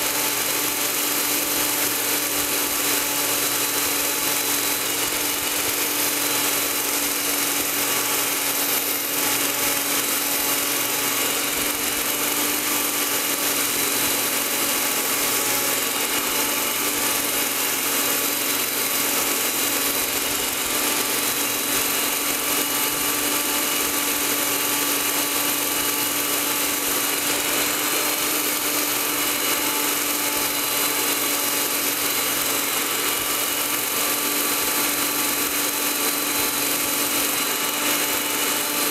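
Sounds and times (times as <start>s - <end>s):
polishing machine motor whir: 0.0s - 38.9s.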